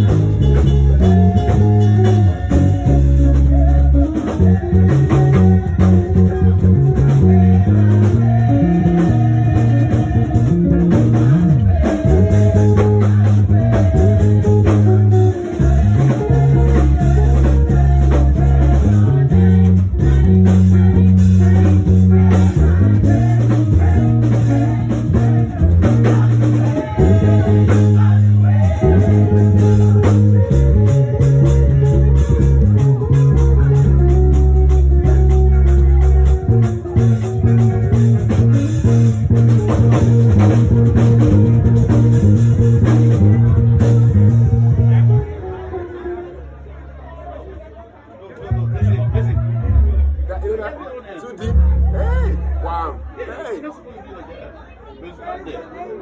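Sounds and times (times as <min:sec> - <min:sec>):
person singing: 0:00.0 - 0:46.2
band music with deep bass: 0:00.0 - 0:46.9, 0:48.4 - 0:53.2.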